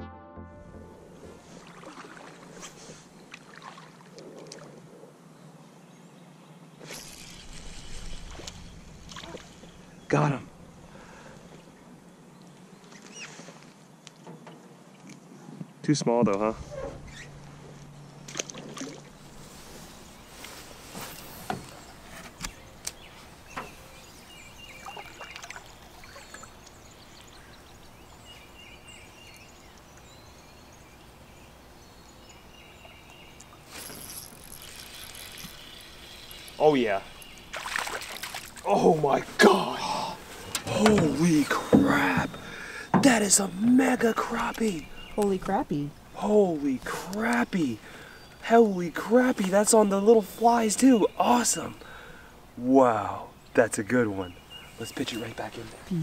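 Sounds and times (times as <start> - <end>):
water lapping around boat: 1.3 - 5.1, 7.5 - 15.3, 16.6 - 39.4, 40.0 - 50.6.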